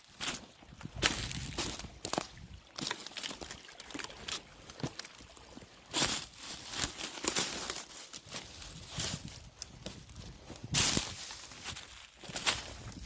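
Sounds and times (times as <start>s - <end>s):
footsteps crunching on forest floor: 0.0s - 13.0s.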